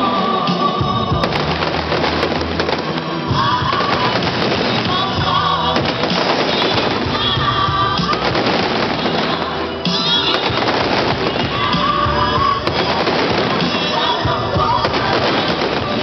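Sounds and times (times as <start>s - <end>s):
loud music: 0.0s - 16.0s
firework bangs and crackles: 0.1s - 16.0s.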